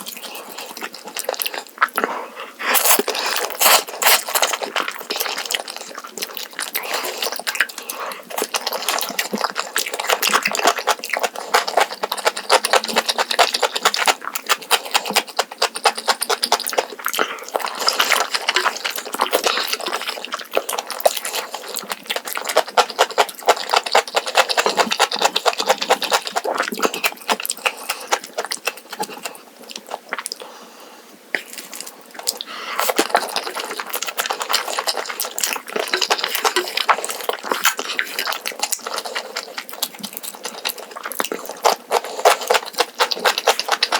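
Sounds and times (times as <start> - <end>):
person chewing and slurping: 0.0 - 30.6, 31.4 - 43.9.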